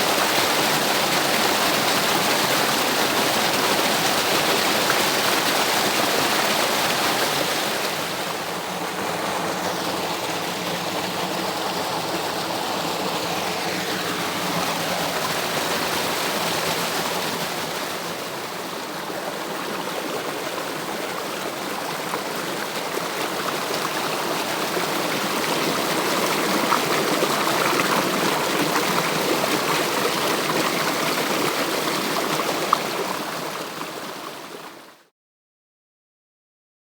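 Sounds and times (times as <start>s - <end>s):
stream rushing over cascades: 0.0s - 34.9s.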